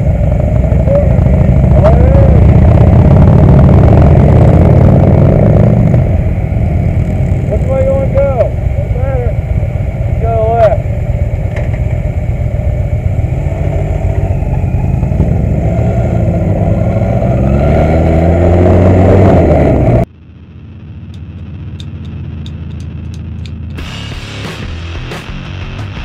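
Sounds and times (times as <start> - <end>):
low hum: 0.0 - 26.0
motorcycle engine accelerating: 0.0 - 26.0.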